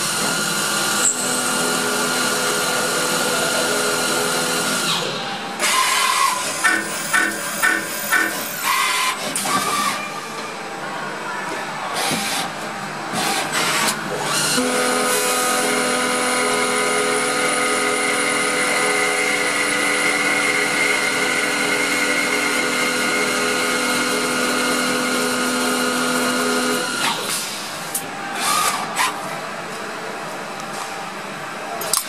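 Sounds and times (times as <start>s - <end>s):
machine motor and cutting whine: 0.0s - 10.1s, 12.0s - 27.6s.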